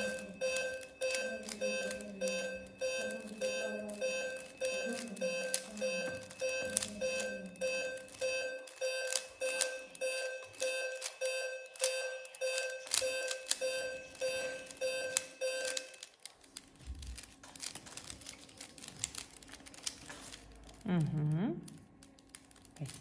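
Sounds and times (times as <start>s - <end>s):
faint clicks and scratches: 0.0s - 23.0s.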